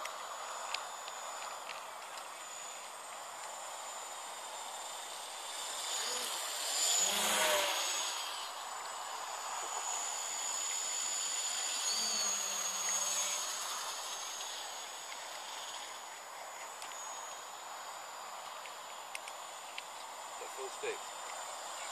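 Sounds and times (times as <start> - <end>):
quadcopter propeller whine: 0.0 - 21.9.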